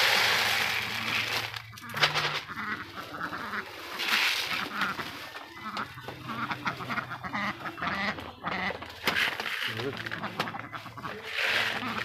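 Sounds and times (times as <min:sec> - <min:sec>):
ducks quacking: 0:00.8 - 0:12.0.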